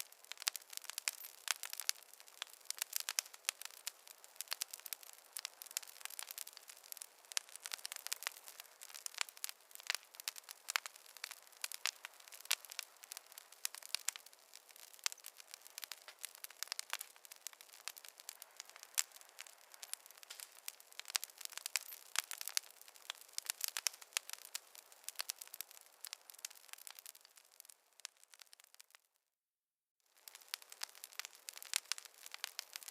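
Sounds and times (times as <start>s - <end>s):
campfire crackling and popping: 0.0s - 29.1s, 30.1s - 32.9s.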